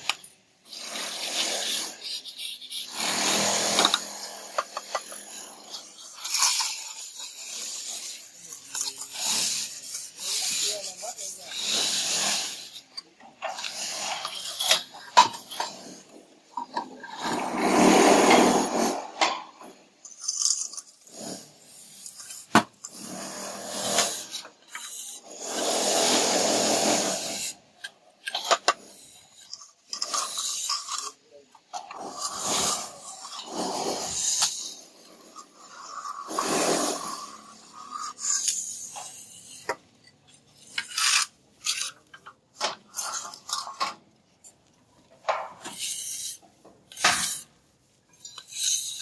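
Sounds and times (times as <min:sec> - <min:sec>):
scraping and rubbing strokes: 0:00.0 - 0:49.0.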